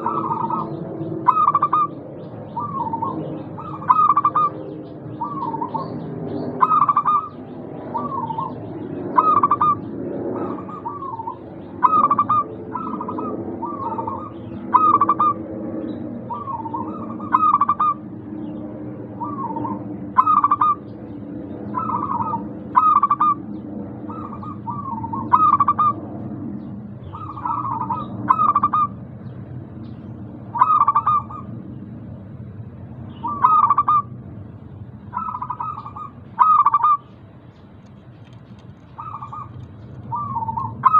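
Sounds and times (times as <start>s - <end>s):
doves cooing: 0.0s - 32.1s, 33.0s - 40.9s
steady low background noise: 0.0s - 40.9s.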